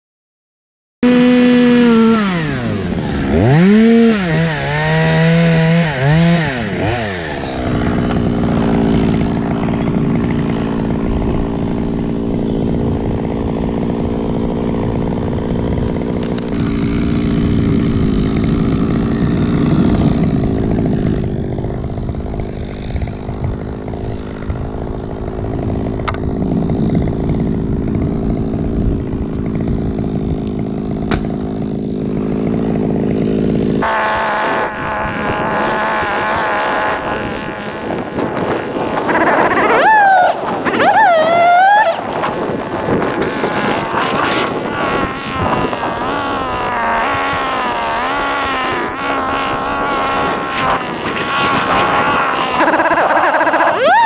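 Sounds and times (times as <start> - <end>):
chainsaw revving: 1.0 - 54.0.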